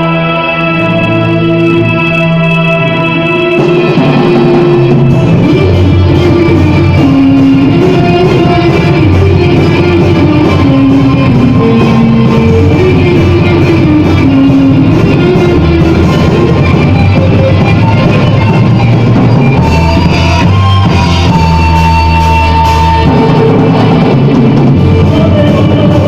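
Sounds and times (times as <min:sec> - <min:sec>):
gothic metal band playing: 0:00.0 - 0:26.0.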